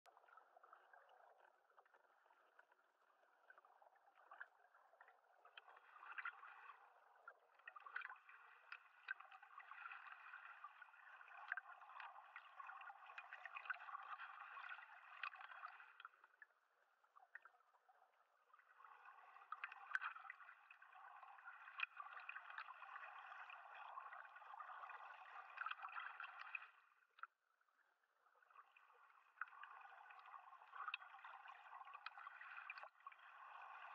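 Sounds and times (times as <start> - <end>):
small crackles and clicks: 0.0 - 33.9
underwater gurgling water: 0.0 - 33.9.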